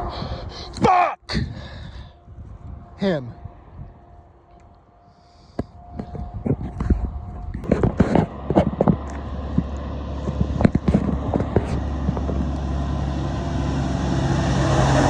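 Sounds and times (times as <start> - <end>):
truck engine rumble: 0.0 - 15.0.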